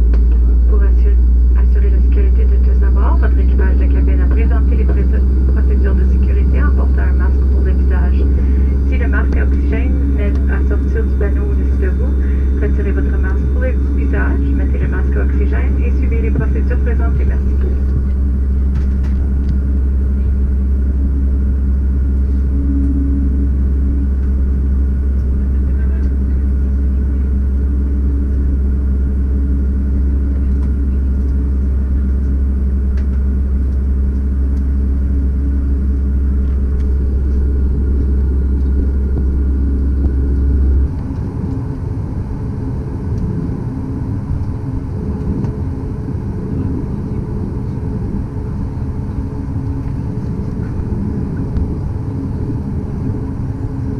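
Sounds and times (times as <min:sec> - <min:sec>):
constant hum: 0:00.0 - 0:53.9
deep cabin rumble: 0:00.0 - 0:53.9.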